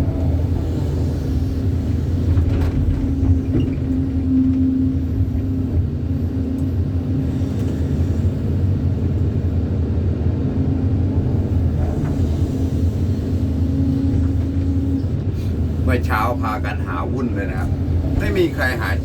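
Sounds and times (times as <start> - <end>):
heavy machinery engine drone: 0.0 - 19.0.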